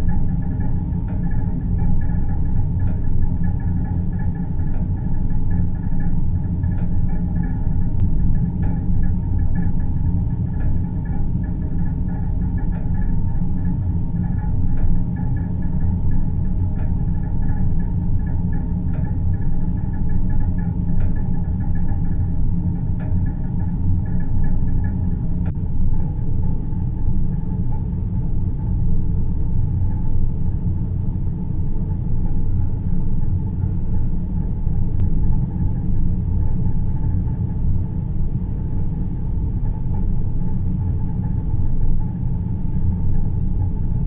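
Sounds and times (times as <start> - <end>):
dense low rumble: 0.0 - 44.0.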